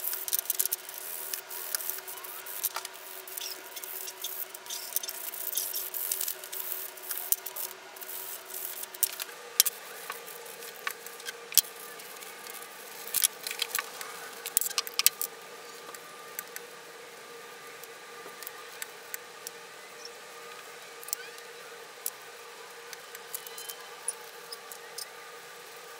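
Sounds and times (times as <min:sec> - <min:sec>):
steady background hum: 0:00.0 - 0:25.9.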